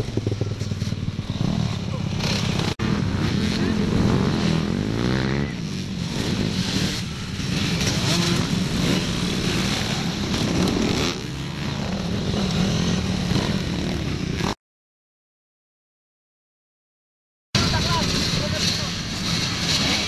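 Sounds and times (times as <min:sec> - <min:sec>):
dirt bike engines revving: 0:00.0 - 0:14.6, 0:17.6 - 0:20.0.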